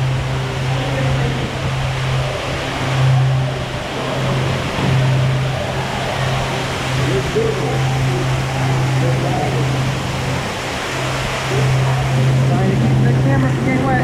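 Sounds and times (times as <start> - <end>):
low steady hum: 0.0 - 14.0
rushing water: 0.0 - 14.0.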